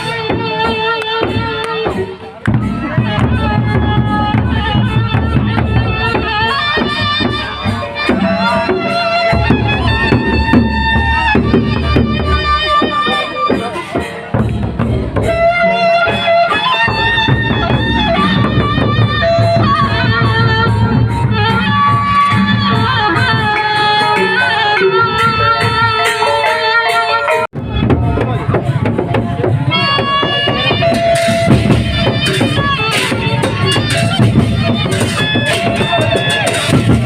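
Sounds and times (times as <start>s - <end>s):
big drums beating: 0.0s - 26.5s, 27.5s - 37.0s.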